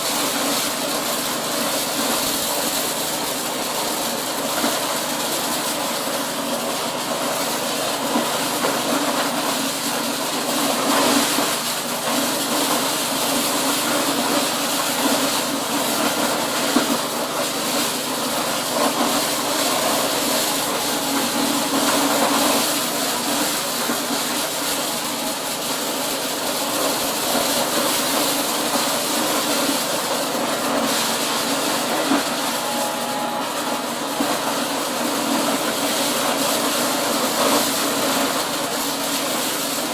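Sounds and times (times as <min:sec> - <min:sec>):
corn sheller machine running: 0:00.0 - 0:39.9.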